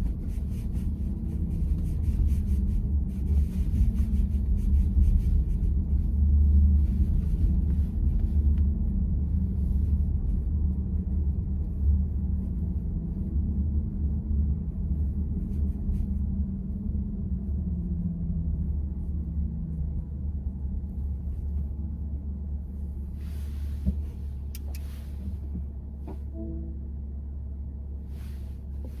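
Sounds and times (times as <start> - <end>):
road and tyre rumble in car cabin: 0.0 - 29.0.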